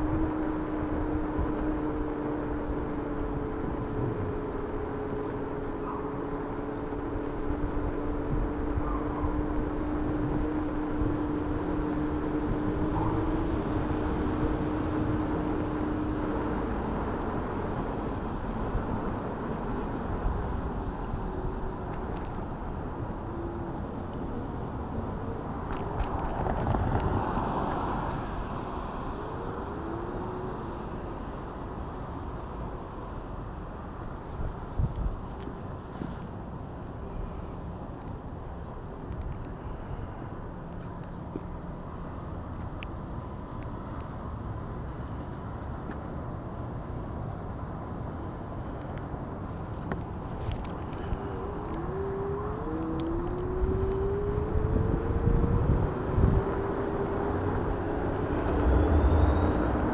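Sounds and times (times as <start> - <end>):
scooter rumble and wind noise: 0.0 - 59.9.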